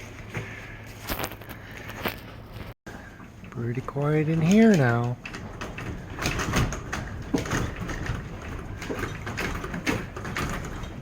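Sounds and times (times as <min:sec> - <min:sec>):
knocks and rattles: 0:01.1 - 0:11.0.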